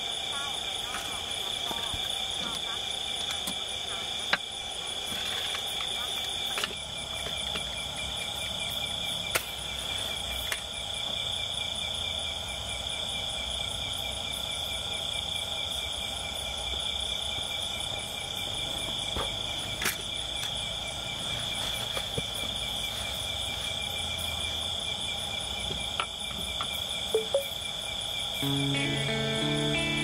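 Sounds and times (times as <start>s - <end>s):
insects chirping and trilling: 0.0s - 30.0s.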